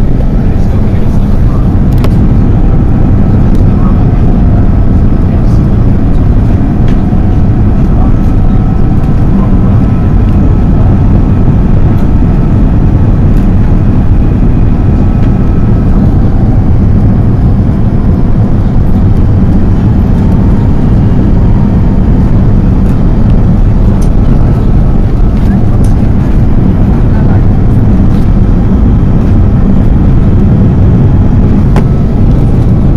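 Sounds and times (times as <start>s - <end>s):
faint whining fan tones: 0.0s - 32.9s
jet engines and airflow in cabin: 0.0s - 32.9s.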